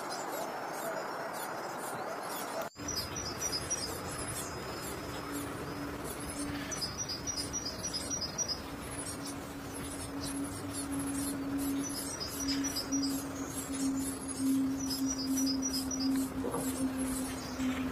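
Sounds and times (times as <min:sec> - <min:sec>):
low hum: 0:02.6 - 0:17.9.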